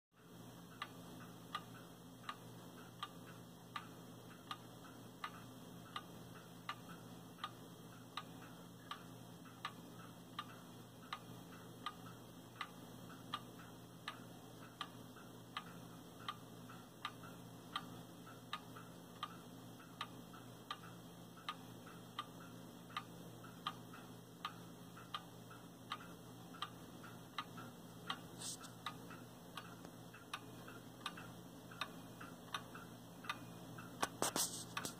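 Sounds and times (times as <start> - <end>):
clock ticking: 0.2 - 34.9.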